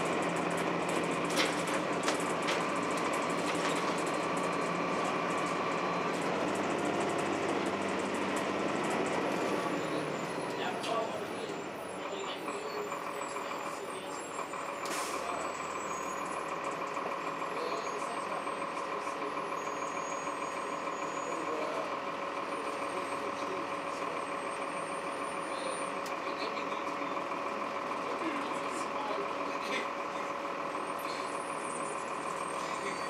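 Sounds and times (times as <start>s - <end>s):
bus engine whine: 0.0s - 33.0s.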